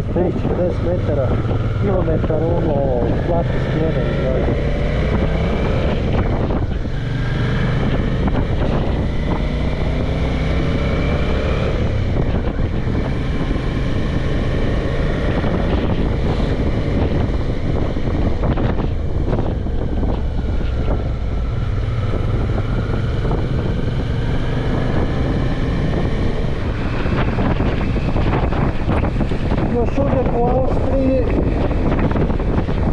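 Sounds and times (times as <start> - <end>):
motorcycle engine running: 0.0 - 32.9
wind noise on microphone: 0.0 - 32.9.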